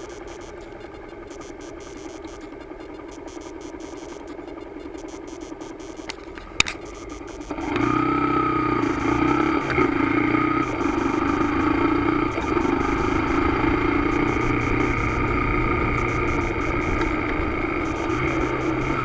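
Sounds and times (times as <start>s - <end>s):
motorcycle engine: 0.0s - 19.0s.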